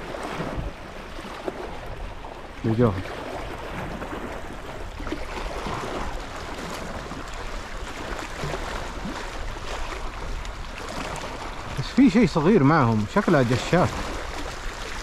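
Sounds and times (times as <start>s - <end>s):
sea water washing: 0.0s - 15.0s
wind: 0.0s - 15.0s.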